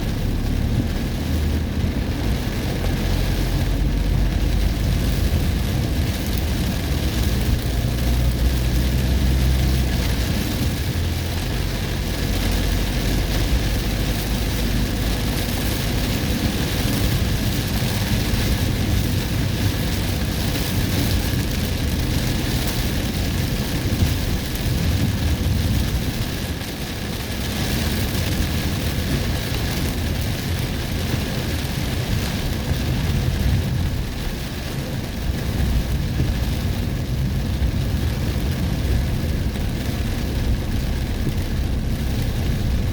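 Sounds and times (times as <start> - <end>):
heavy rain on a car: 0.0 - 42.9
low rumble of engine and tyres: 0.0 - 42.9.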